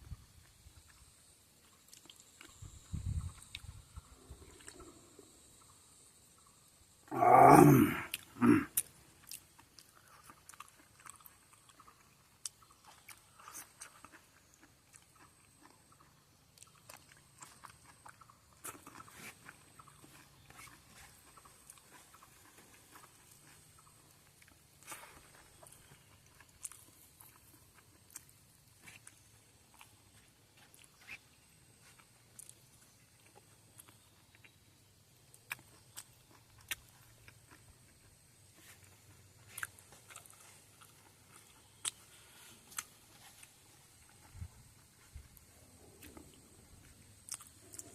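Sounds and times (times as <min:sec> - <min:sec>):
person chewing food: 0:00.5 - 0:05.4, 0:07.1 - 0:47.9.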